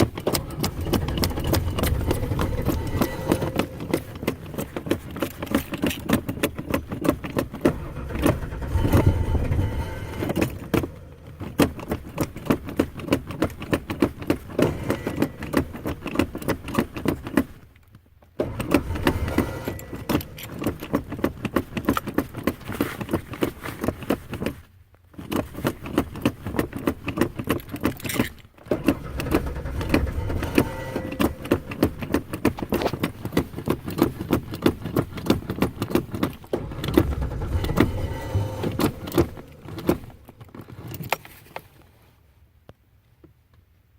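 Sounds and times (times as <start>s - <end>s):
engine starter cranking: 0.0s - 17.7s, 18.4s - 23.5s, 25.6s - 41.4s.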